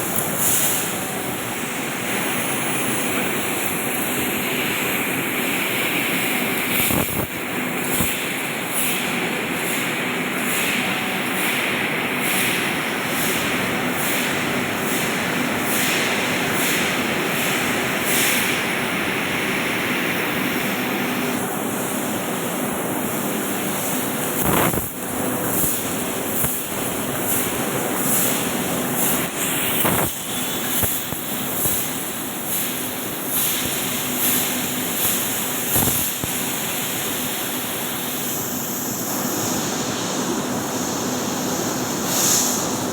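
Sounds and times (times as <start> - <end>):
laser cutting machine hiss: 0.0 - 42.9.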